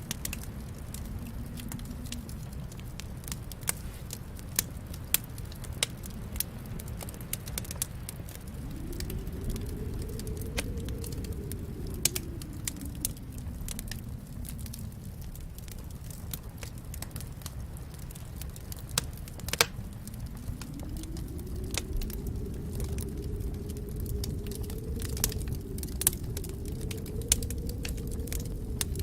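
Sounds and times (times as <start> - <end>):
low rush of flames: 0.0 - 29.0
wood fire popping: 0.0 - 29.0.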